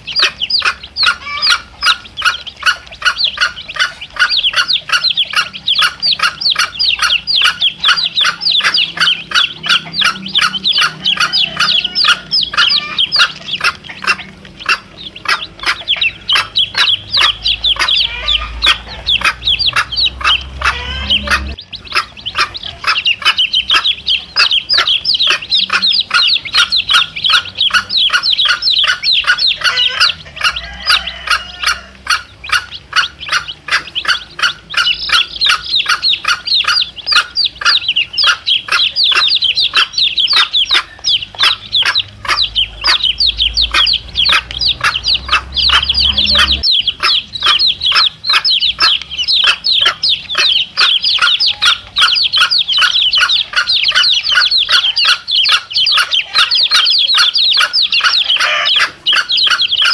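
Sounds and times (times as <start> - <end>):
chicks peeping: 0.0 - 59.9
hen clucking: 0.0 - 59.9.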